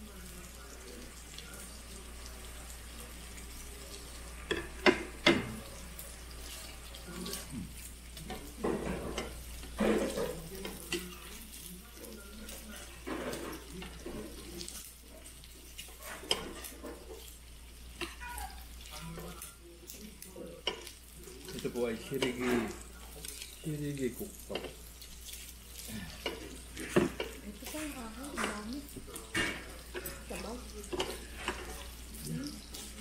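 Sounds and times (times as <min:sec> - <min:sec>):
meat sizzling on a grill: 0:00.0 - 0:33.0
utensils clattering against bowls: 0:03.3 - 0:33.0.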